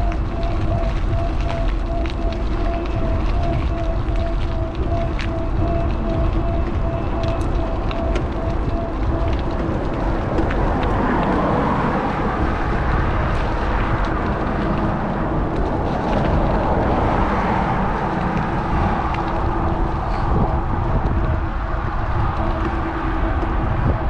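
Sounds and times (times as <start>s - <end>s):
steady low hum: 0.0s - 24.0s
tyre and road noise: 0.0s - 24.0s
wind on microphone: 0.0s - 24.0s.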